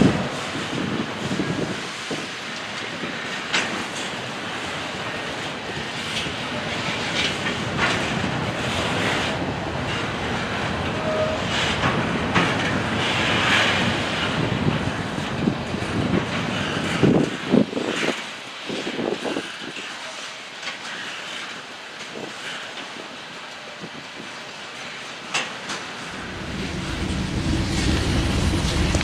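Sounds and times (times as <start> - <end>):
train wheels clacking on rail joints: 0.0 - 29.0.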